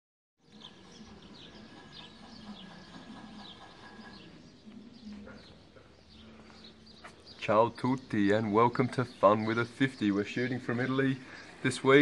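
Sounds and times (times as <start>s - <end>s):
birds chirping: 0.4s - 12.0s.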